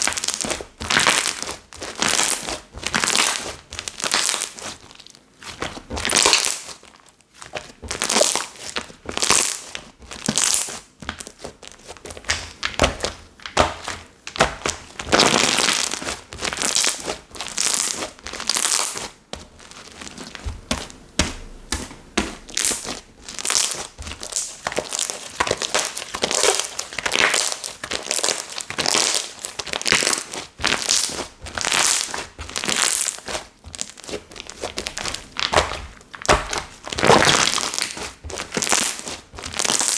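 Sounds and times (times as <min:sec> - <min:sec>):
slime squishing: 0:00.0 - 0:39.9.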